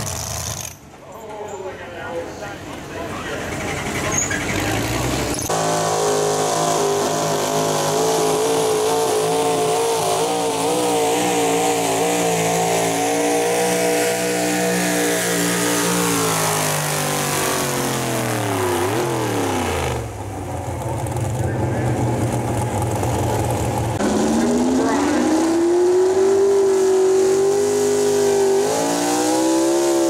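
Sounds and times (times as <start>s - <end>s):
truck engine revving under load: 3.3s - 30.0s.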